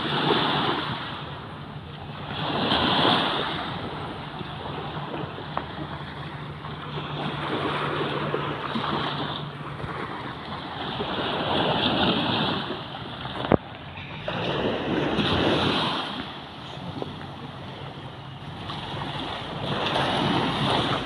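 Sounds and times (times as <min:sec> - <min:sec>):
small waves washing on sand: 0:00.0 - 0:21.0
wind on microphone: 0:00.0 - 0:21.0.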